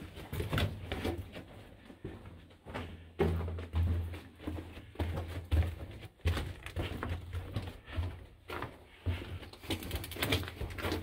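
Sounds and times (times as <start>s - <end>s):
footsteps crunching on gravel: 0.0s - 11.0s.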